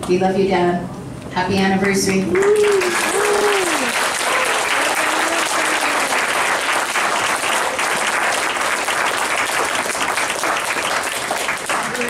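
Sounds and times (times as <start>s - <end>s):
crowd applauding: 2.0s - 12.0s.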